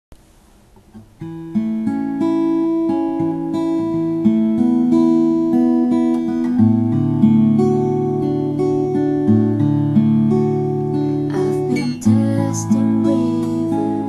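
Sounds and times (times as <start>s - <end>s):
acoustic guitar picked notes: 0.2s - 14.0s.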